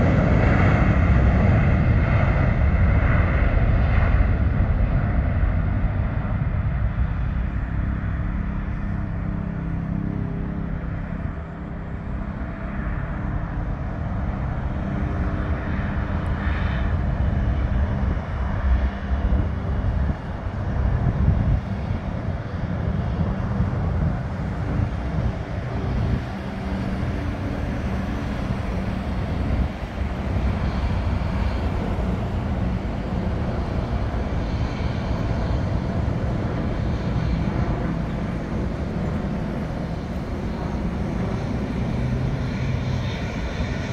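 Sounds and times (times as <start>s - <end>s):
jet engines deep rumble: 0.0s - 43.9s.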